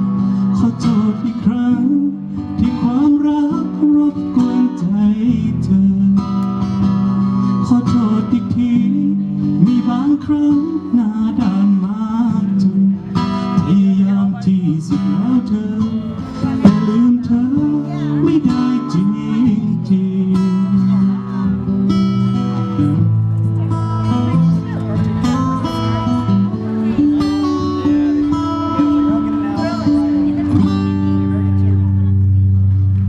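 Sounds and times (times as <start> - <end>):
strummed acoustic guitar: 0.0 - 33.0.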